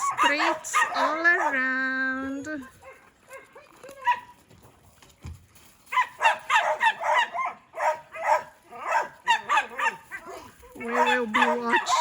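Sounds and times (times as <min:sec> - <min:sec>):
dogs barking and yapping: 0:00.0 - 0:04.6, 0:05.6 - 0:12.0.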